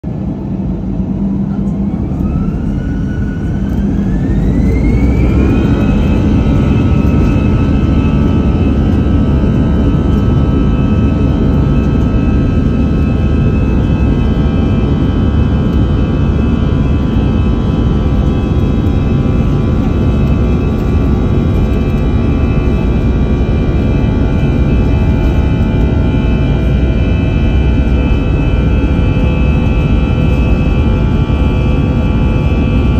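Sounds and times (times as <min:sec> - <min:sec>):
jet engines spooling up: 0:00.1 - 0:32.9.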